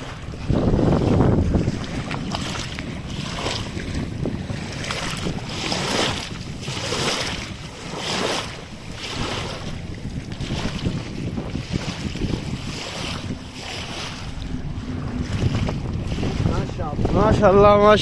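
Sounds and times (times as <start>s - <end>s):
rushing floodwater: 0.0s - 18.0s
wind buffeting microphone: 0.0s - 18.0s.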